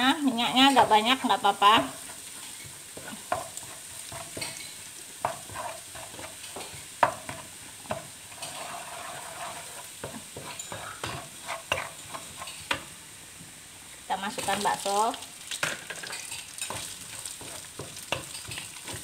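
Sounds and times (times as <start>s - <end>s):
paste sizzling in hot oil: 0.0s - 19.0s
spatula knocking and scraping pan: 0.3s - 12.9s, 15.6s - 19.0s.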